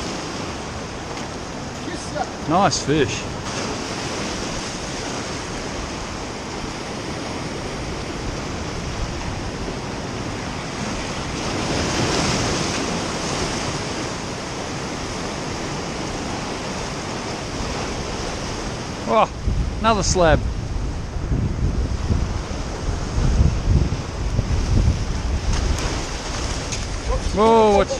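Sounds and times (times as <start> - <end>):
ocean waves surging: 0.0 - 27.9.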